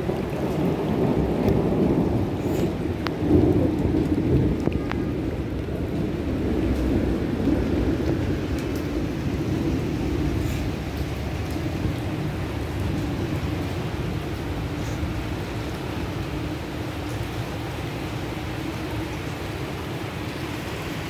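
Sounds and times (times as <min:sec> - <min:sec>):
rain on paving: 0:00.0 - 0:21.0.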